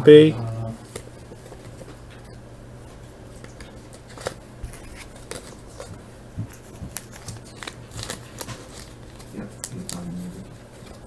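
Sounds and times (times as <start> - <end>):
steady low hum: 0.0 - 11.0
trading cards clicking and rustling: 0.8 - 11.0.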